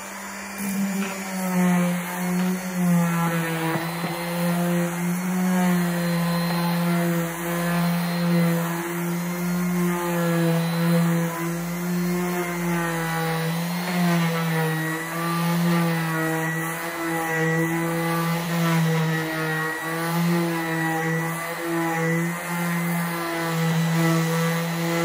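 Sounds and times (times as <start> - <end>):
orbital sander on wood: 0.0 - 25.0.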